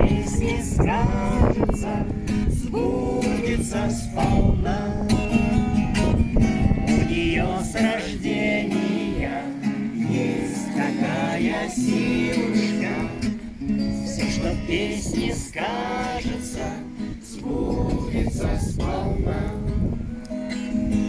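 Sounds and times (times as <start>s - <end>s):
person singing: 0.0s - 20.9s
acoustic guitar strumming: 0.0s - 21.0s.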